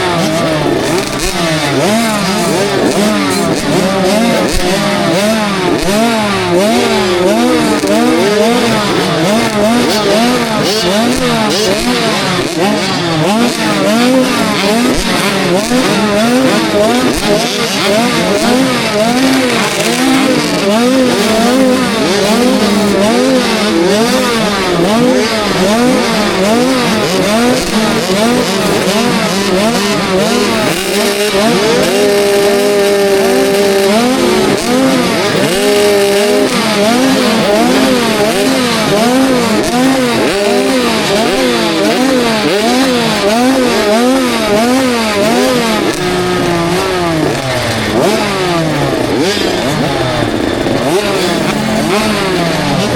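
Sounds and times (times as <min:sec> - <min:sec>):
motocross engine revving: 0:00.0 - 0:52.9.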